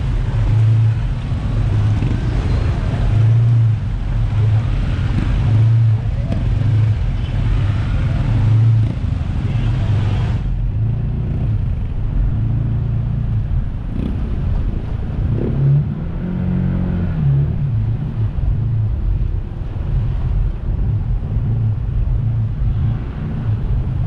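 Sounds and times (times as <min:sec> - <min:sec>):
jet ski engine drone: 0:00.0 - 0:24.0.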